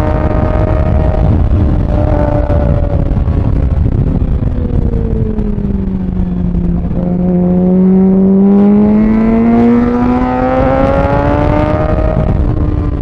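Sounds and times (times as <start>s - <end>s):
motorcycle engine revving: 0.0s - 13.0s
wind rumble: 0.0s - 13.0s.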